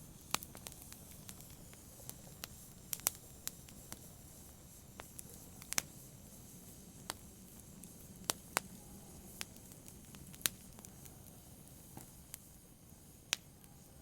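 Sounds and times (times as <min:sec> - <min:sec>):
wood fire crackling and popping: 0:00.0 - 0:13.8
low rumble of flames: 0:00.0 - 0:13.9.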